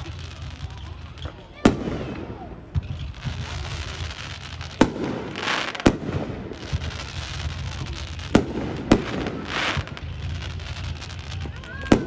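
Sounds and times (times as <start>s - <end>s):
firework shells booming: 0.0s - 12.0s
fireworks crackling: 0.0s - 12.0s.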